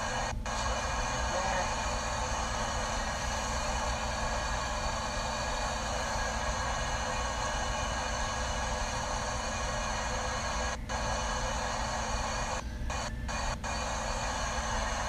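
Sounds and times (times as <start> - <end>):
steady machine hiss: 0.0 - 15.0.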